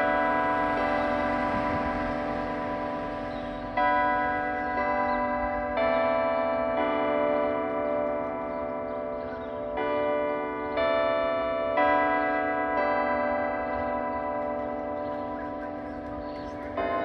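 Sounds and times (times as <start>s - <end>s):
church bells chiming a tune: 0.0s - 17.0s.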